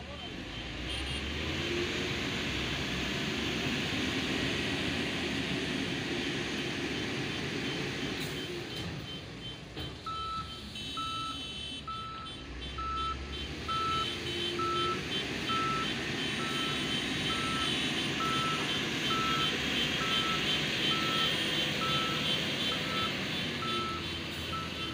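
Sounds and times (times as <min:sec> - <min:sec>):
truck engine running: 0:00.0 - 0:24.9
truck reversing beeper: 0:00.0 - 0:24.9.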